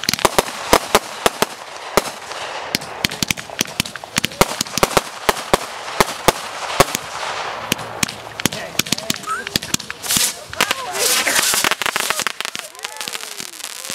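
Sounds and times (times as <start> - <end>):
fireworks bangs and pops: 0.0 - 13.9
fireworks crackling hiss: 0.0 - 13.9.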